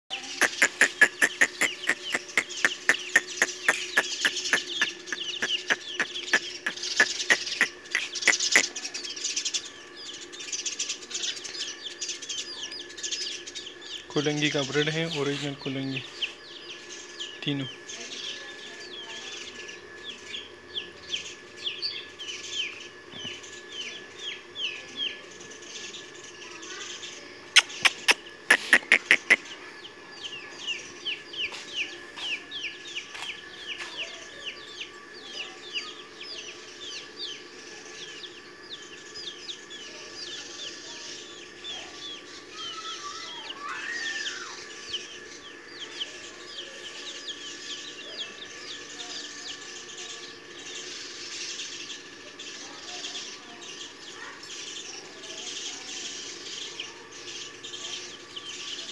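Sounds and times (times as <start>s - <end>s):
chicks peeping: 0.1s - 58.9s.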